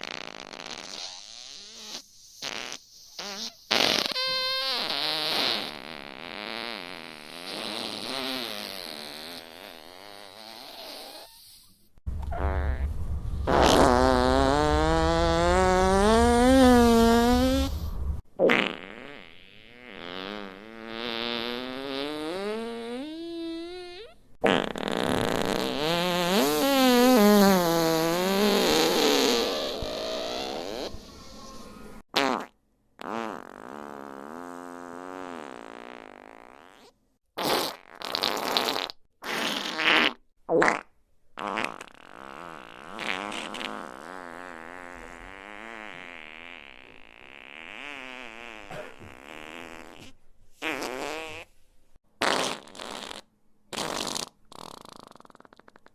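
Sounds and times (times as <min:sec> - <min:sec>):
fart sound effects: 0:00.0 - 0:31.2, 0:32.1 - 0:51.5, 0:52.2 - 0:55.9.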